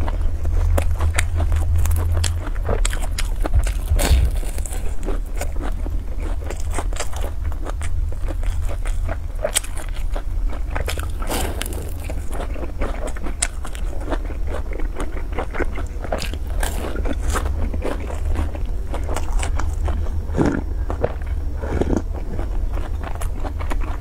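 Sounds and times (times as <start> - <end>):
crisp crunching bites: 0.0 - 24.0
low hum: 0.0 - 24.0
wet chewing clicks: 0.0 - 24.0.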